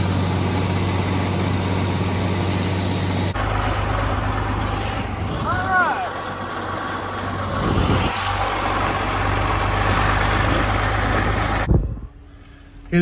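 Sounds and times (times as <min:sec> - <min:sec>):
machinery engine humming: 0:00.0 - 0:13.0.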